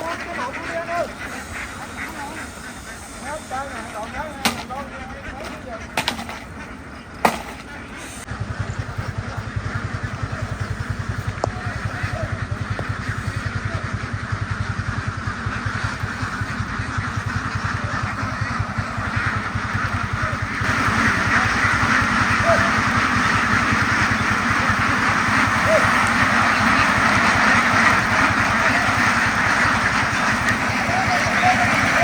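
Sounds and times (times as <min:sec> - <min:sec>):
engine starting and running: 0:06.0 - 0:32.0.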